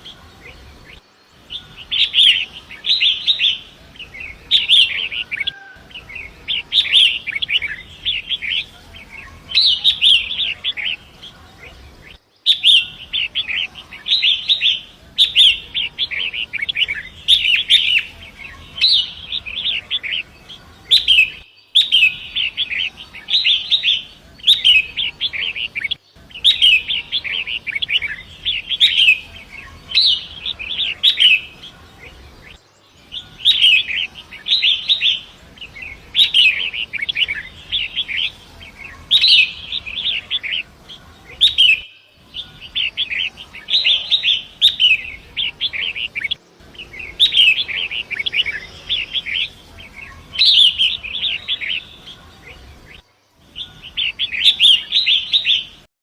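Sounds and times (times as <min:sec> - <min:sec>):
shrike singing: 0:00.0 - 0:55.9.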